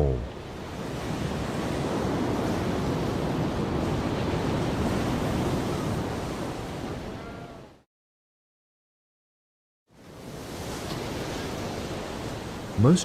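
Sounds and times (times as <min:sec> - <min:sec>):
ocean waves and surf: 0:00.0 - 0:07.8, 0:09.9 - 0:13.0.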